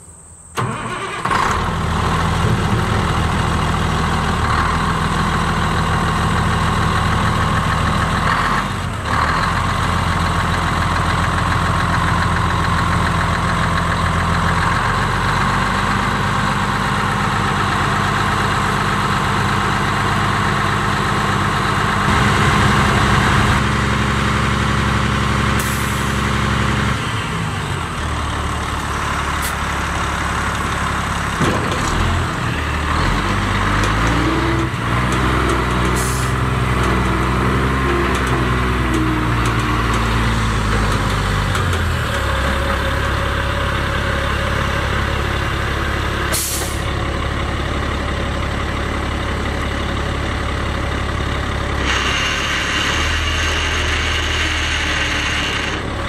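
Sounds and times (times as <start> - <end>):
diesel truck engine idling: 0.2 - 56.0.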